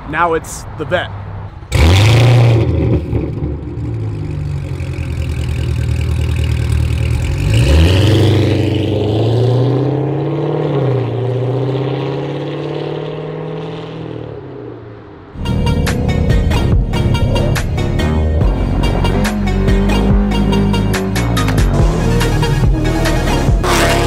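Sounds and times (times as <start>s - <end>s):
car engine accelerating hard: 1.7s - 24.0s.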